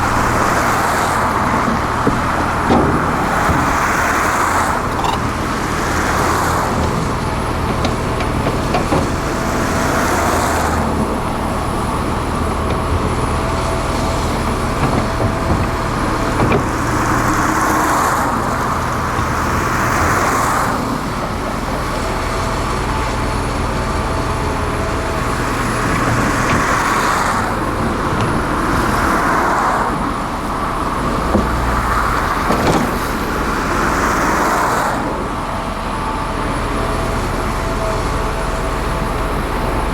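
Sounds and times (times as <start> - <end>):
excavator engine hum: 0.0 - 39.9
hydraulic whine of excavators: 0.0 - 39.9.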